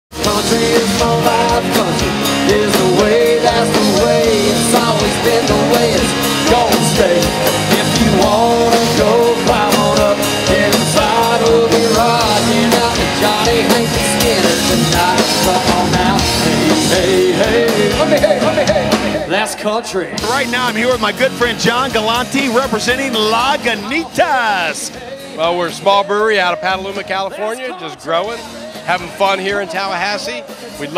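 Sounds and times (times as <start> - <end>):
live rock band playing: 0.1 - 30.9.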